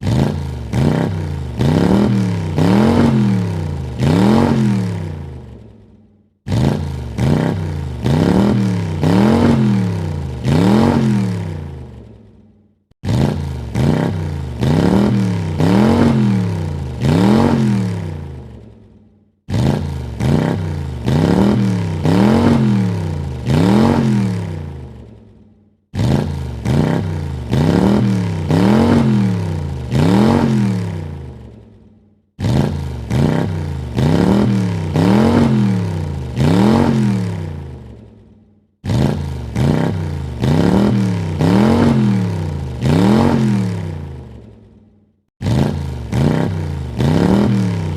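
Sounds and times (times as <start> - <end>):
car engine revving: 0.0 - 5.7, 6.5 - 12.1, 13.0 - 18.7, 19.5 - 25.2, 25.9 - 31.6, 32.4 - 38.0, 38.8 - 44.6, 45.4 - 47.9.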